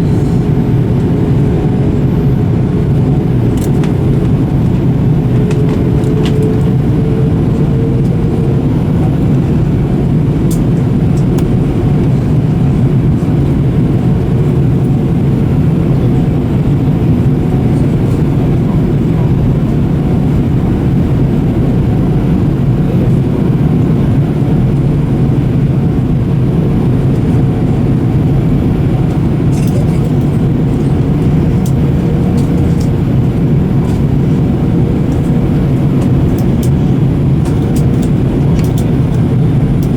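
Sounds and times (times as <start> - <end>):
jet engine drone and airflow: 0.0 - 39.9.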